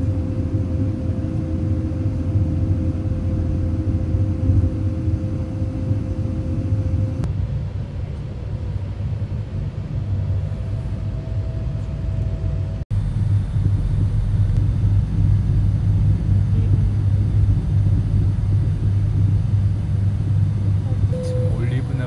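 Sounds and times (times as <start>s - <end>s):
train rumble inside carriage: 0.0s - 22.0s.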